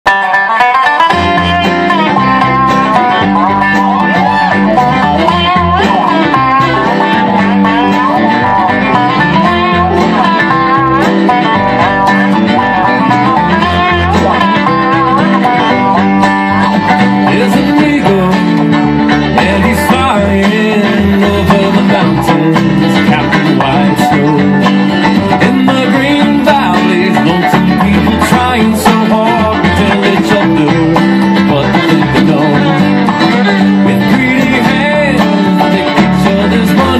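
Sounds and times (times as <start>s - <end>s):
bluegrass band playing: 0.0s - 36.9s.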